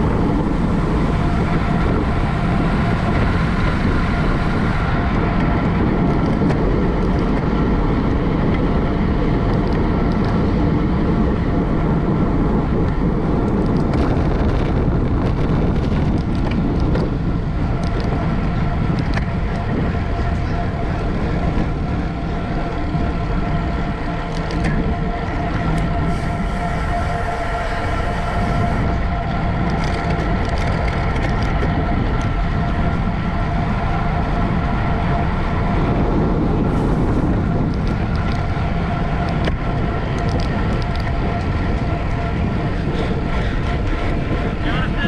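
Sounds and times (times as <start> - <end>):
bicycles rushing past: 0.0 - 45.0.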